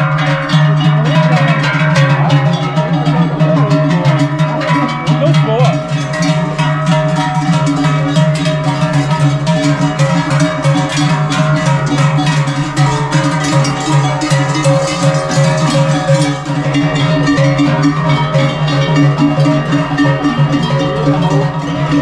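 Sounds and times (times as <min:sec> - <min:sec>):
cowbells clanging: 0:00.0 - 0:22.0.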